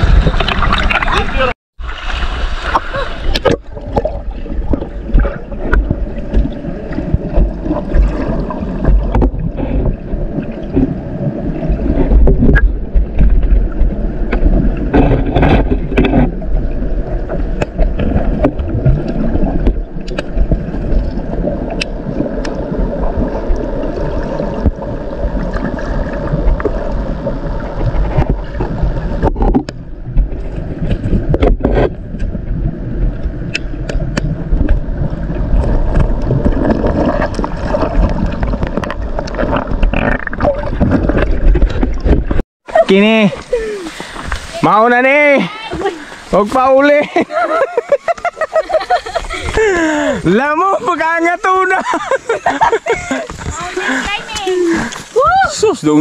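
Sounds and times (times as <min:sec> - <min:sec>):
muffled underwater stream rushing: 0:00.0 - 0:56.0.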